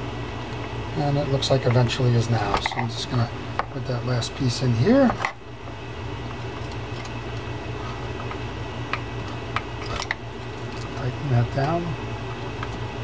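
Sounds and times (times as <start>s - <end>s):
workshop background hum: 0.0s - 13.0s.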